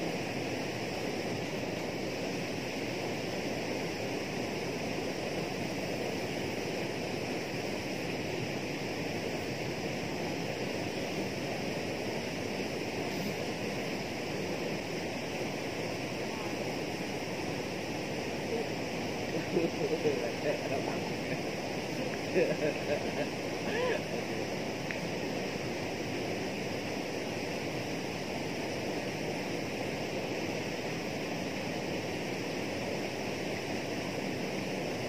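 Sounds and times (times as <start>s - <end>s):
rushing water at a dam: 0.0s - 35.0s.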